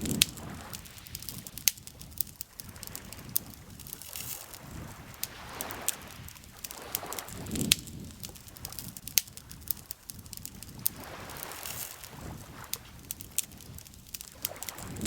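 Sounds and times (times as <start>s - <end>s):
campfire crackling and popping: 0.0s - 15.0s
lake water lapping: 0.0s - 15.0s.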